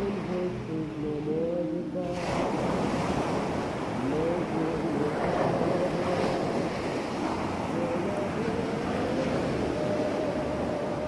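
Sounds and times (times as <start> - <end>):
ocean waves washing: 0.0 - 11.0.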